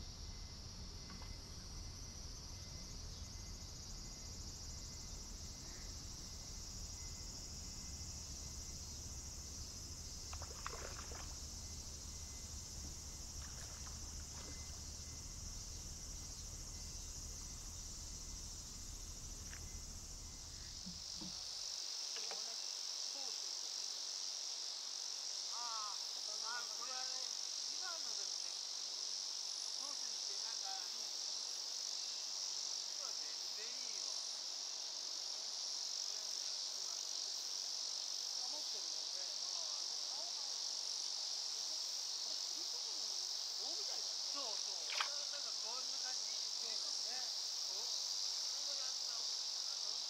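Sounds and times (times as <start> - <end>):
insects shrilling: 0.0 - 50.0.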